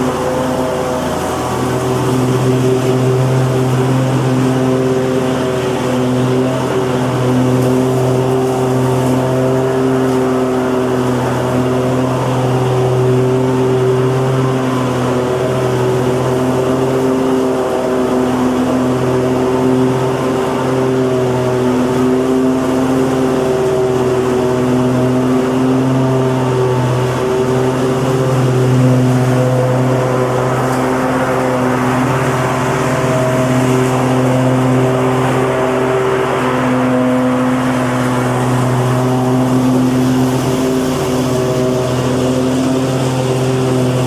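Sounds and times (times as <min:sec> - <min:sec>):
lawn mower engine running: 0:00.0 - 0:44.0.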